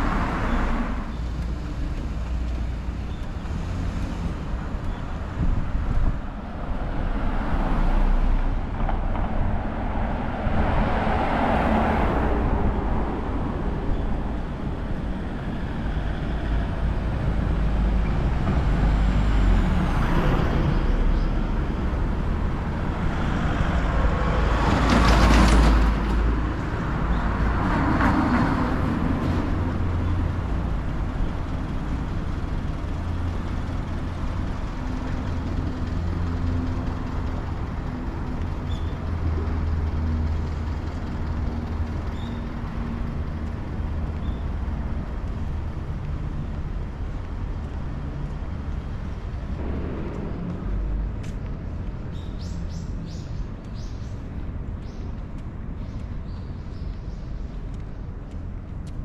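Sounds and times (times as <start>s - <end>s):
traffic rumble: 0.0s - 59.0s
vehicles passing by: 0.0s - 59.0s.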